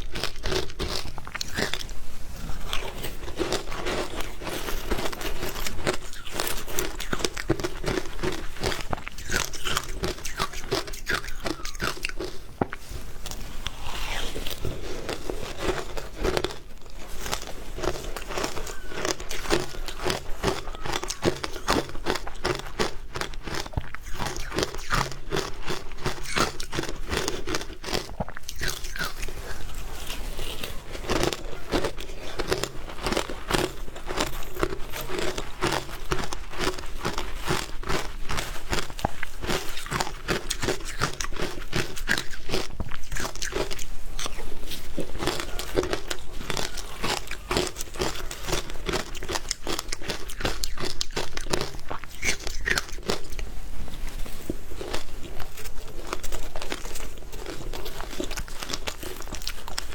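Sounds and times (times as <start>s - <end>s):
crunching and chewing ice: 0.0s - 59.9s.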